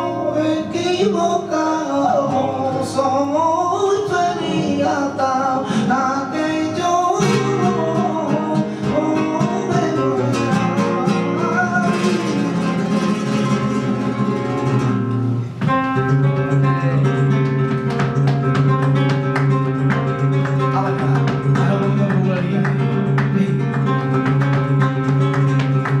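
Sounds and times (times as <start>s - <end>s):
man singing: 0.0s - 14.6s, 16.3s - 18.6s, 20.2s - 25.6s
flamenco guitar: 0.0s - 26.0s.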